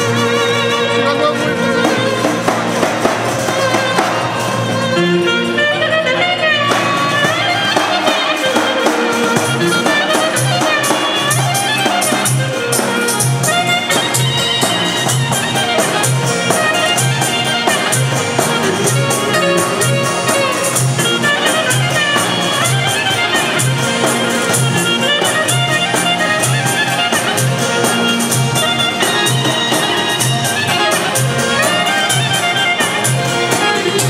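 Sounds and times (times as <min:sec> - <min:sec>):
clarinet melody: 0:00.0 - 0:34.0
keyboard accompaniment with low beat: 0:00.0 - 0:34.0.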